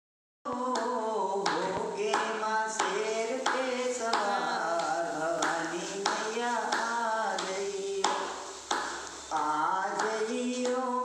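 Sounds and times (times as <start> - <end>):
man singing slow melody: 0.5 - 11.0.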